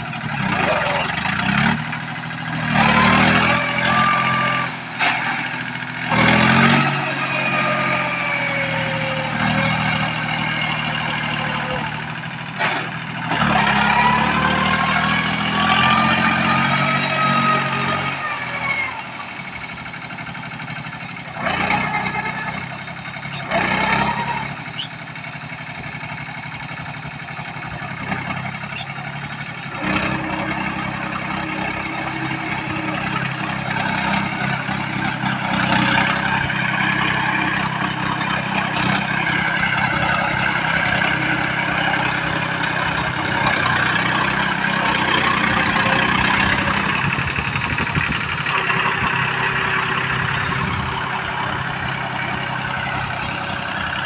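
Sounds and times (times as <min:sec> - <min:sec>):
diesel tractor engine running: 0:00.0 - 0:54.0
wheels churning mud: 0:00.0 - 0:54.0.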